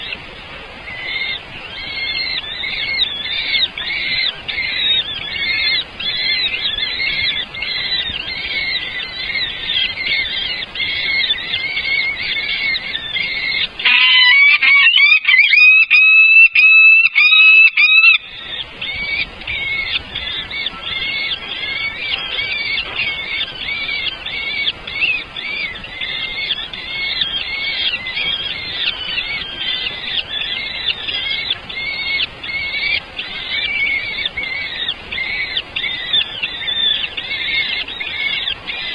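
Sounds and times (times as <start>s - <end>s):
nestling birds chirping: 0.0s - 38.9s.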